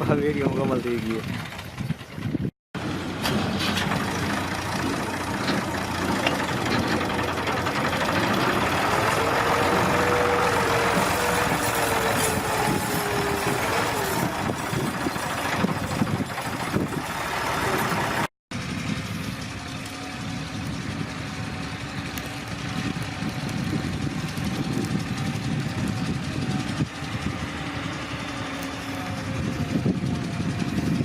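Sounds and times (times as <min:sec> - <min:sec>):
tractor engine running hard: 0:00.1 - 0:31.0.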